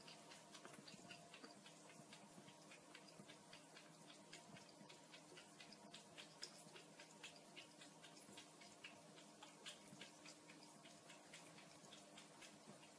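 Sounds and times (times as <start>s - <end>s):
cat lapping water: 0.0s - 12.9s.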